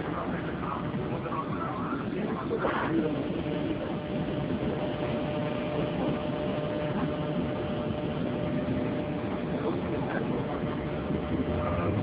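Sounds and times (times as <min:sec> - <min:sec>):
faint steady hum: 0:00.0 - 0:12.0
subway platform rumble: 0:00.0 - 0:12.0.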